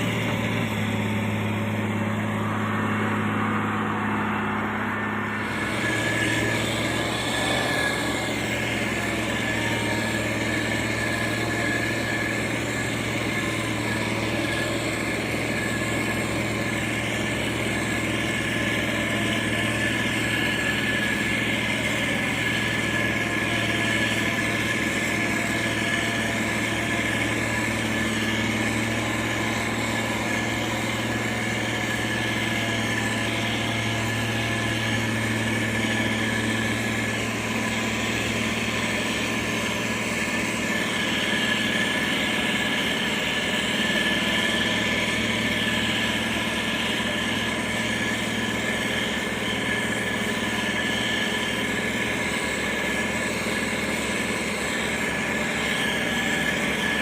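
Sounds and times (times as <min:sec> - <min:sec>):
diesel engine running: 0:00.0 - 0:57.0
high whine: 0:00.0 - 0:57.0.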